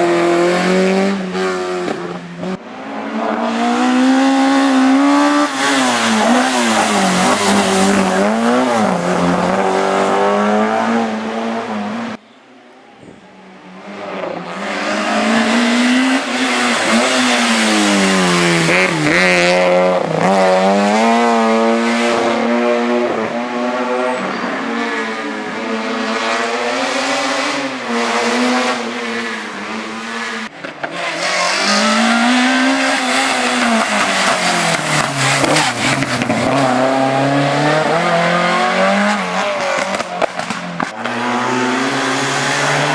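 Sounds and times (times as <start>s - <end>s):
race car engine revving: 0.0s - 12.2s, 13.8s - 42.9s.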